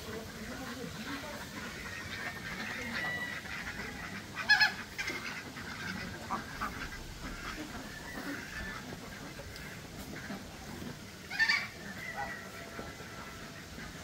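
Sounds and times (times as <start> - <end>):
animal calls: 0.0 - 14.0
steady background noise: 0.0 - 14.0.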